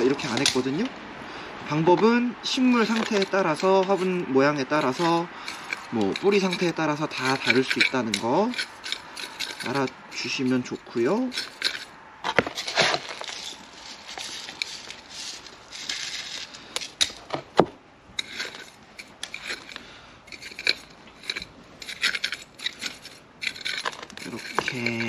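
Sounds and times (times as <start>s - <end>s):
tweezers crunching in gritty soil: 0.0s - 0.9s, 2.0s - 17.3s, 18.2s - 25.0s.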